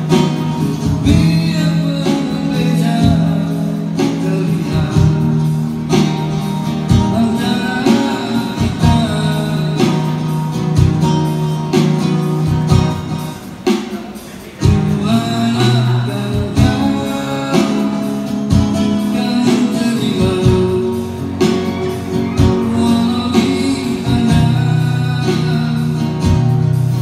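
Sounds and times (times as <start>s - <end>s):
man singing: 0.0s - 10.6s, 14.2s - 27.0s
acoustic guitar strumming: 0.0s - 27.0s.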